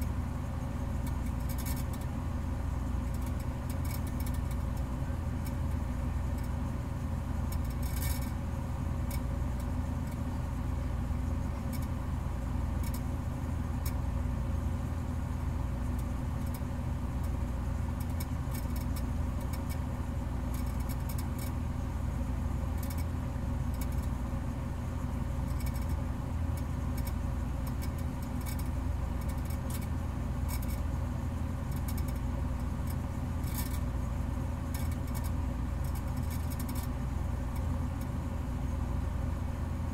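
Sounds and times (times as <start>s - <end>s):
low mechanical rumble: 0.0s - 39.9s.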